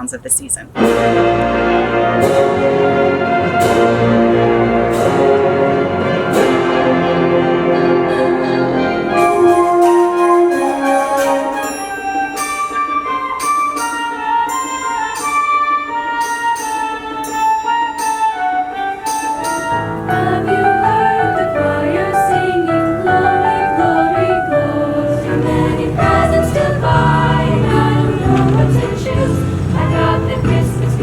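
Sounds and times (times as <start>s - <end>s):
choir singing: 0.0s - 31.0s
instrumental accompaniment: 0.0s - 31.0s.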